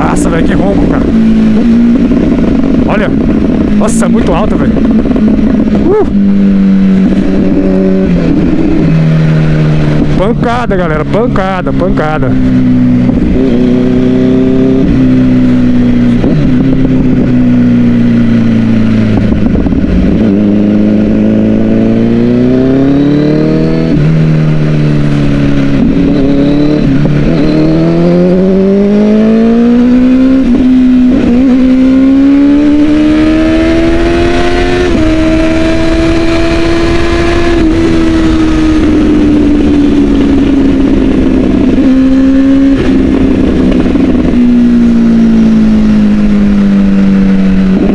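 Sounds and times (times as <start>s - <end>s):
motorcycle engine accelerating: 0.0s - 47.9s
wind rush on microphone: 0.0s - 47.9s.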